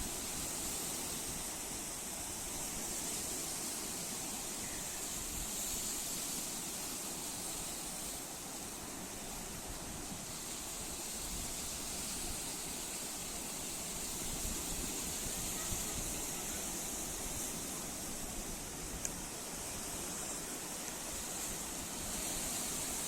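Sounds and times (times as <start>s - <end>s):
surf hissing: 0.0s - 23.0s.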